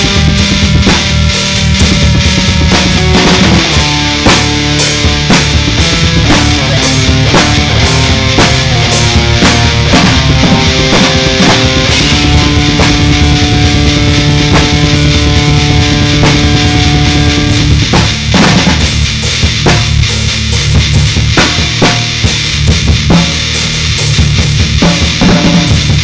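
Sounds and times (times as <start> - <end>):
distorted electric guitar: 0.0 - 26.0
drum kit playing: 0.0 - 26.0.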